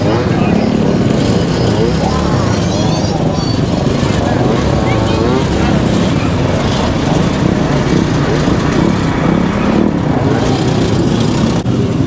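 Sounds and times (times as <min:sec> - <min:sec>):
scooter engines running: 0:00.0 - 0:12.0.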